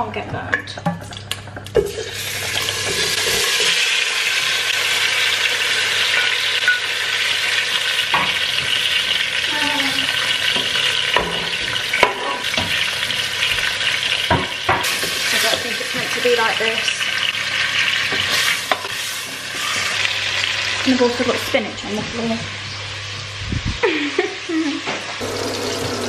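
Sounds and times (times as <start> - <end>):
beetroot sizzling in hot oil: 1.6 - 26.0.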